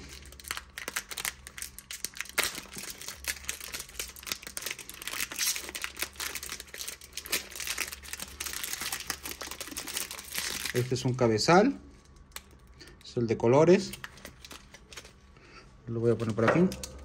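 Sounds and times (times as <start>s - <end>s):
plastic packaging crinkling and tearing: 0.0s - 13.2s, 13.8s - 15.3s.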